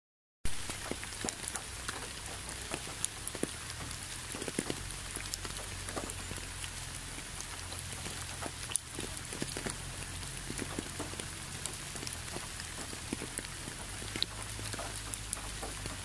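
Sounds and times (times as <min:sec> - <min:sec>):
raindrops tapping close by: 0:00.4 - 0:16.0
steady rain falling: 0:00.4 - 0:16.0
low steady rumble: 0:00.5 - 0:16.0.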